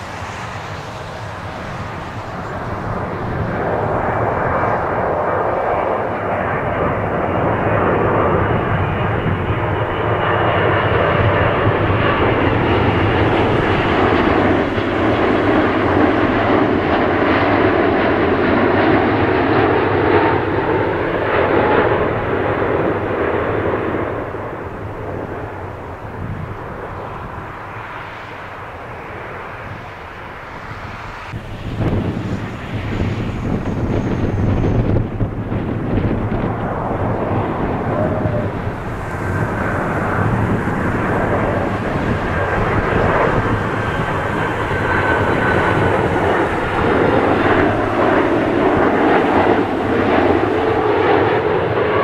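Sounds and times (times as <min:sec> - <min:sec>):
jet engines roaring overhead: 0:00.0 - 0:52.0.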